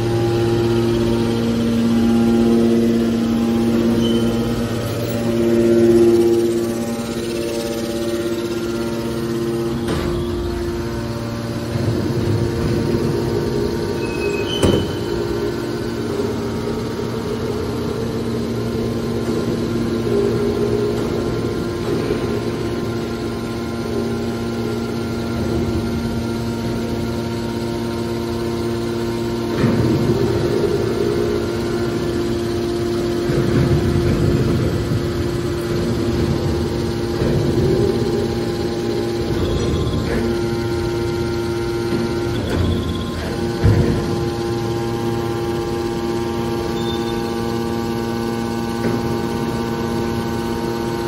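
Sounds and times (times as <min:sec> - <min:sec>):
baler motor humming: 0:00.0 - 0:51.0.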